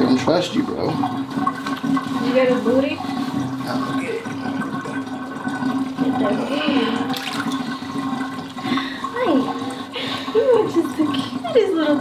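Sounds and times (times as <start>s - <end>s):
bath water splashing and running: 0.0s - 12.0s.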